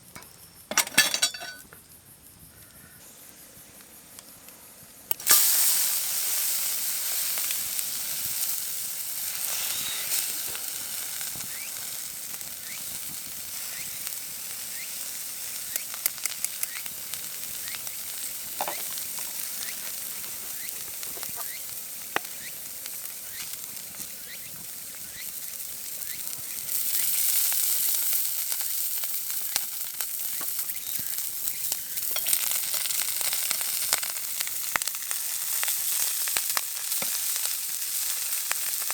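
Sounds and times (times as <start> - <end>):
food sizzling on a griddle: 2.8 - 38.9.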